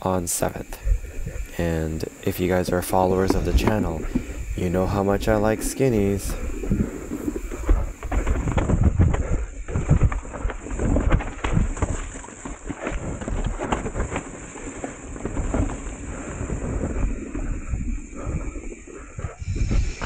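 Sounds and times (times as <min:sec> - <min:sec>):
bike tyre noise on dirt: 0:00.0 - 0:20.0
wind on microphone: 0:00.0 - 0:20.0
bike knocking and rattling: 0:01.0 - 0:20.0.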